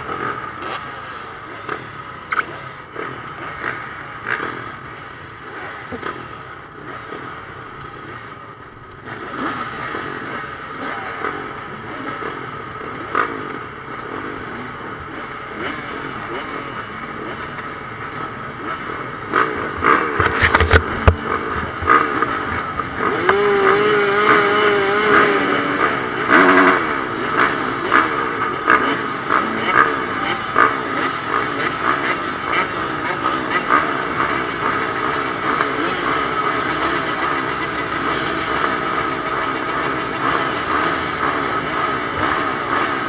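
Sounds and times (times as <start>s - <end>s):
motocross engines revving: 0.0s - 43.0s.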